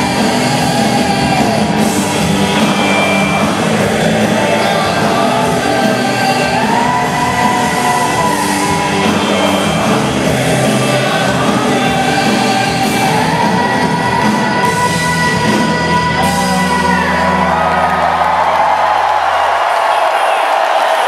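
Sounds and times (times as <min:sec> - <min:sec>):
man singing long notes: 0:00.0 - 0:18.2
crowd cheering: 0:00.0 - 0:21.0
rock band guitars and drums: 0:00.0 - 0:21.0.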